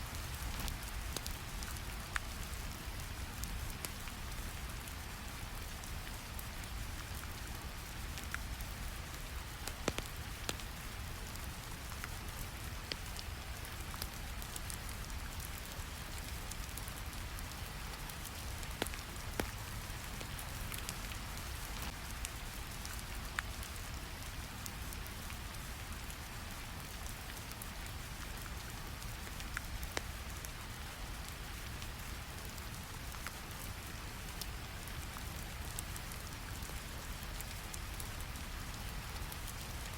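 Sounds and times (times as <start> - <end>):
steady rain: 0.0 - 39.9
wood fire crackling: 0.1 - 39.9.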